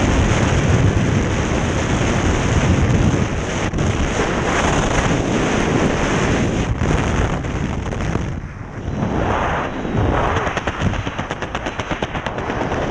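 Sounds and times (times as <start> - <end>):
wind blasting over microphone: 0.0 - 12.9.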